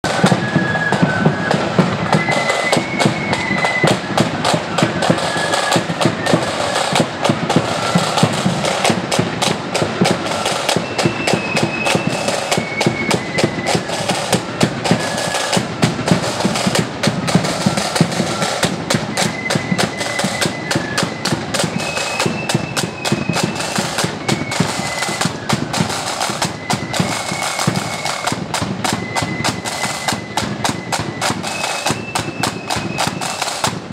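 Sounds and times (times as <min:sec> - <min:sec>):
flutes playing a tune: 0:00.0 - 0:33.9
rattling side drums: 0:00.0 - 0:33.9.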